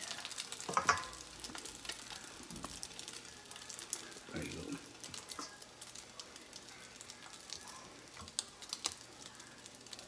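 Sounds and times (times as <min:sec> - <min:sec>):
bread sizzling in a pan: 0:00.0 - 0:10.0.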